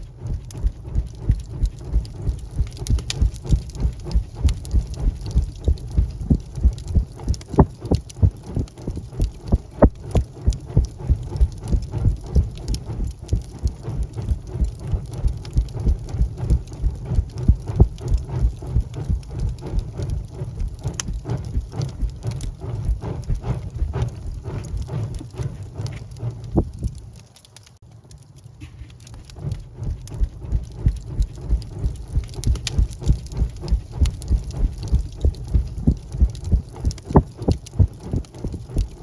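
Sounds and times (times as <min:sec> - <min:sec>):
low rumble: 0:00.0 - 0:39.0
wood fire crackling: 0:00.0 - 0:39.0.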